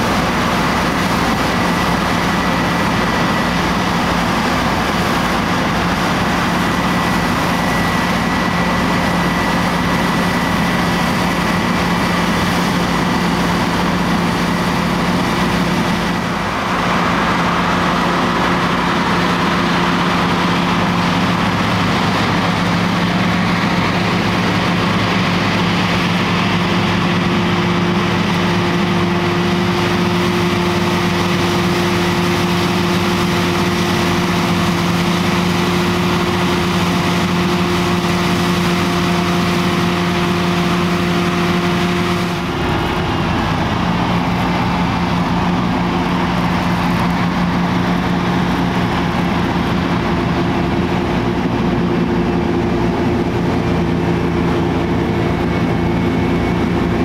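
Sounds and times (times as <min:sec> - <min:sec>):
combine harvester engine hum: 0:00.0 - 0:57.0
threshing machinery whine: 0:00.0 - 0:57.0.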